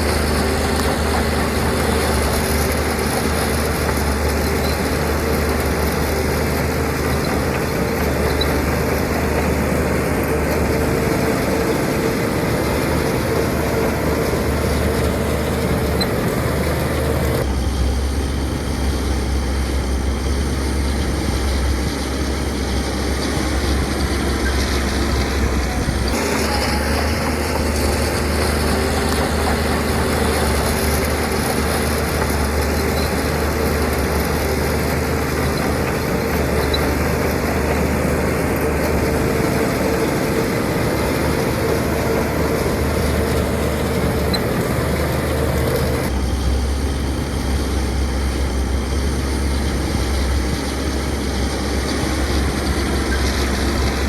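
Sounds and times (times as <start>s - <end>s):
heavy machinery diesel engines humming: 0.0s - 54.0s.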